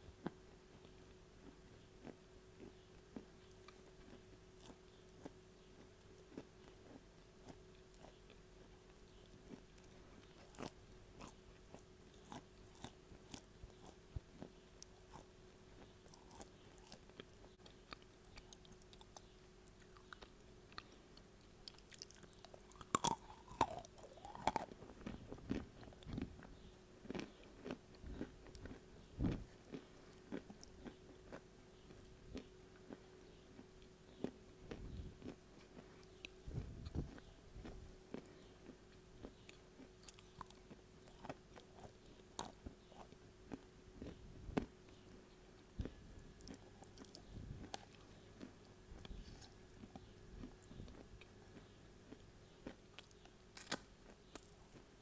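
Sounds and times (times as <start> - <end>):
person chewing with crunchy clicks: 0.1 - 55.0.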